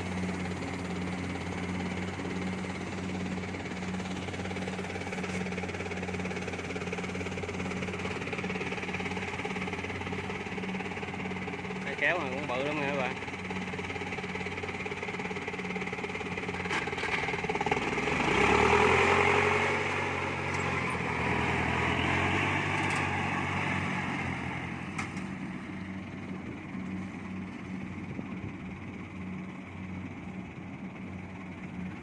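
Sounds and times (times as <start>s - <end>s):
combine harvester engine: 0.0s - 32.0s.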